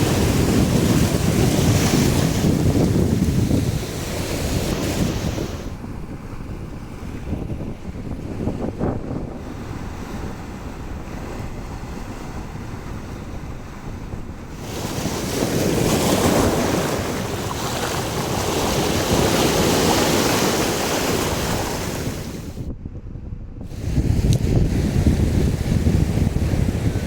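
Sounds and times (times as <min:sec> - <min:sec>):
surf rushing on beach: 0:00.0 - 0:22.7, 0:23.7 - 0:27.0
wind buffeting microphone: 0:00.0 - 0:27.0.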